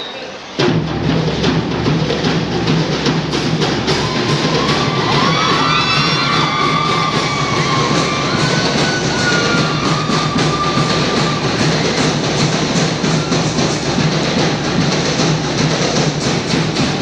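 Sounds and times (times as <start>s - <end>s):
marching drums beating: 0.6s - 17.0s.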